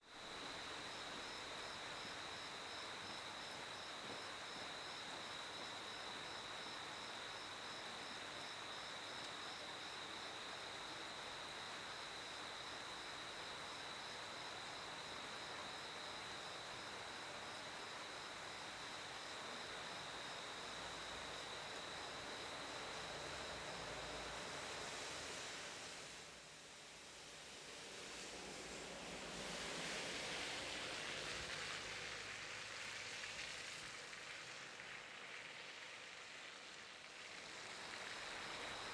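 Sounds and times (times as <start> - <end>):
soft hiss: 0.0 - 38.9
cricket continuous trill: 0.1 - 26.2, 28.1 - 38.9.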